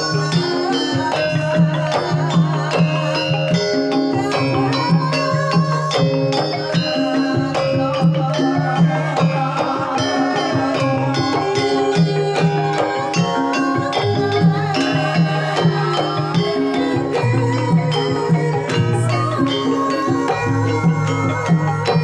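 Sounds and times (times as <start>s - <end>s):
gamelan music: 0.0s - 22.0s
metallophones ringing: 0.0s - 22.0s.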